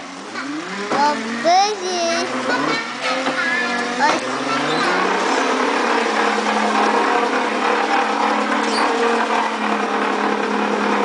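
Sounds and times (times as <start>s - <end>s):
toy car electric motor humming: 0.0s - 11.0s.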